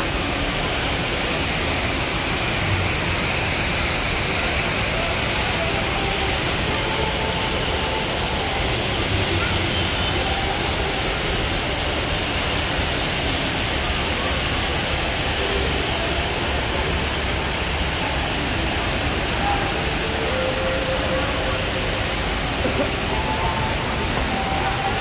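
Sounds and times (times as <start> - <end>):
faint voices: 0.0 - 25.0
waterfall rushing: 0.0 - 25.0.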